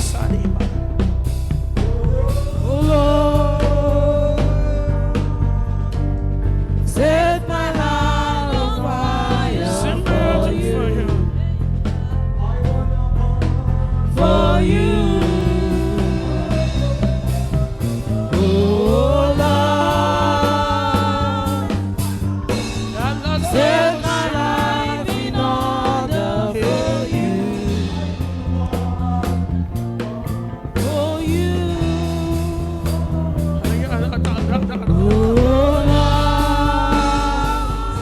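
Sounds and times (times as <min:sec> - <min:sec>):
person singing: 0:00.0 - 0:06.2, 0:06.9 - 0:38.0
keyboard chords and bass: 0:00.0 - 0:38.0.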